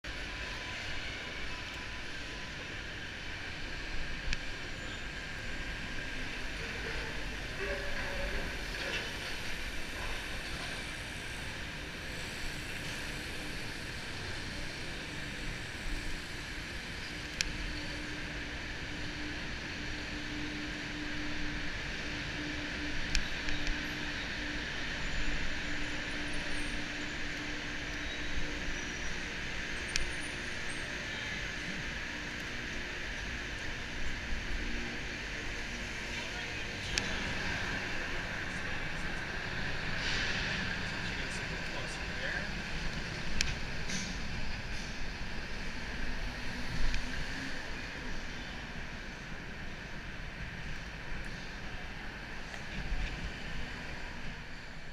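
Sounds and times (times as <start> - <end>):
street traffic rumble and hiss: 0.0 - 54.9.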